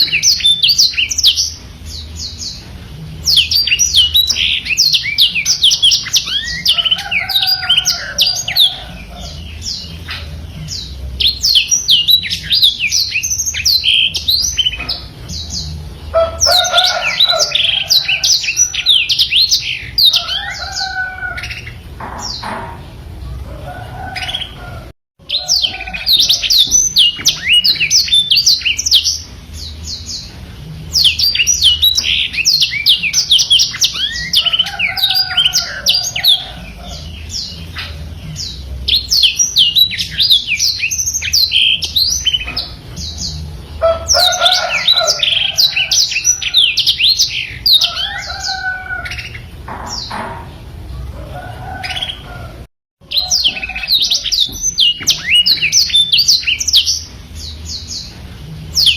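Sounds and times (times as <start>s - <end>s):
canary singing twittering song: 0.0s - 58.9s.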